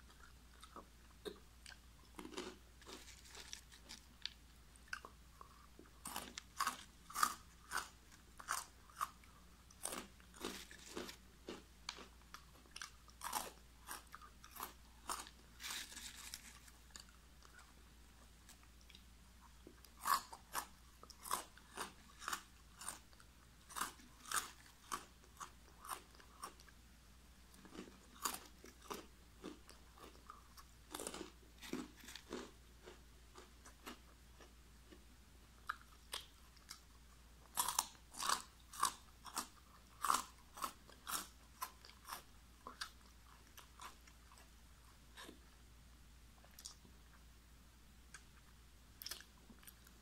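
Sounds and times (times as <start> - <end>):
crunchy chewing: 0.0 - 26.7, 27.5 - 45.5, 46.4 - 46.8, 48.1 - 50.0.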